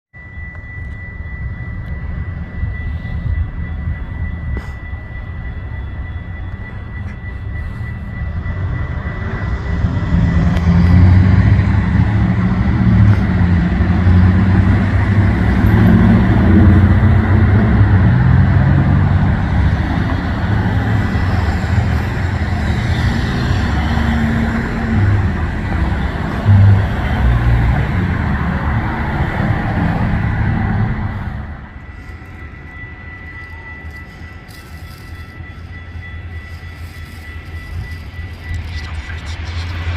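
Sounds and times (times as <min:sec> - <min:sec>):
thin steady high tone: 0:00.1 - 0:39.9
train rumbling by: 0:00.2 - 0:39.9.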